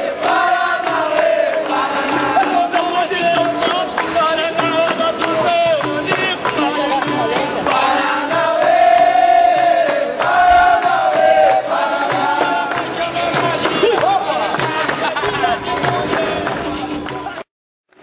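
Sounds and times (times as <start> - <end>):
group singing in chorus: 0.0 - 16.6
people clapping in rhythm: 0.0 - 18.0.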